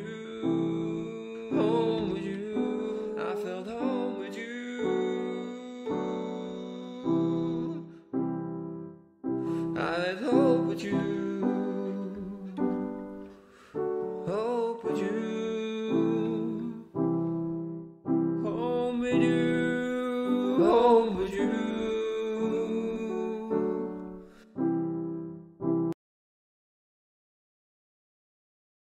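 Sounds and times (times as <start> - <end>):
held keyboard chords: 0.0 - 26.0.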